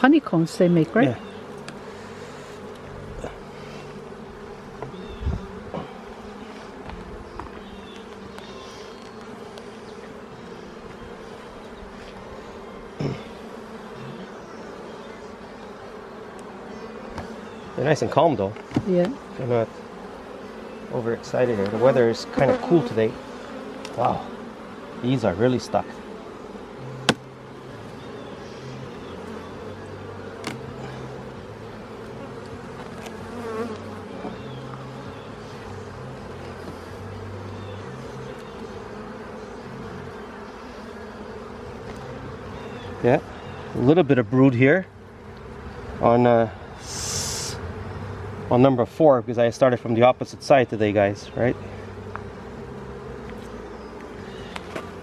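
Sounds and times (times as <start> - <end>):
bees buzzing: 0.0 - 55.0.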